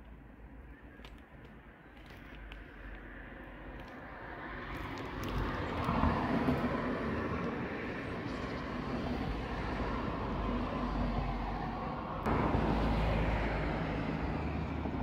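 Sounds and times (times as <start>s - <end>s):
rumbling vehicle: 0.8s - 15.0s.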